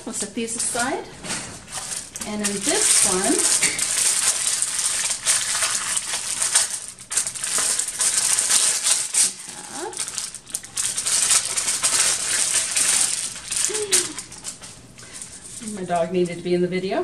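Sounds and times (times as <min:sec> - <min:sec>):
packaging crinkling and tearing: 0:00.6 - 0:15.7.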